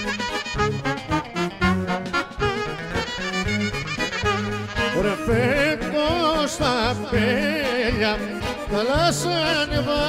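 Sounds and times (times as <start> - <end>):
low bass notes: 0.0 - 8.4
folk clarinet melody: 0.0 - 10.0.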